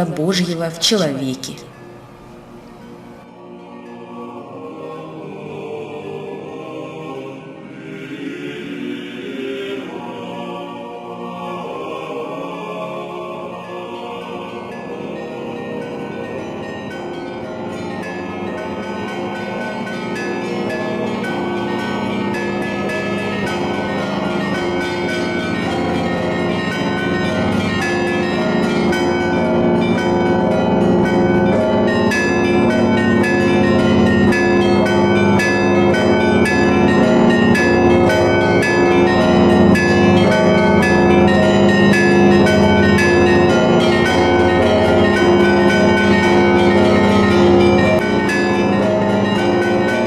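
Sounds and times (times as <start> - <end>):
church bells ringing a peal: 0.0 - 50.0.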